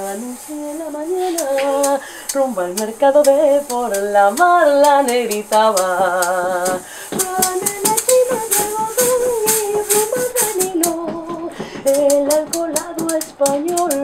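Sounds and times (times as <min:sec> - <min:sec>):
maracas shaken: 0:00.0 - 0:14.0
person singing: 0:00.0 - 0:14.0.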